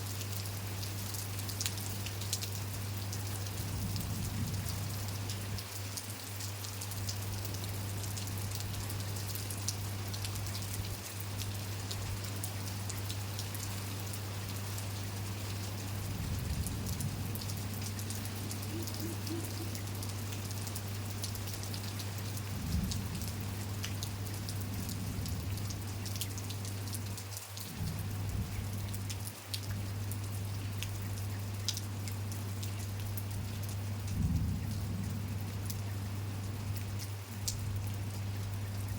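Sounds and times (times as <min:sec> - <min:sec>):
rain falling: 0:00.0 - 0:38.9
raindrops ticking on surfaces: 0:00.0 - 0:38.9
constant low hum: 0:00.1 - 0:38.9.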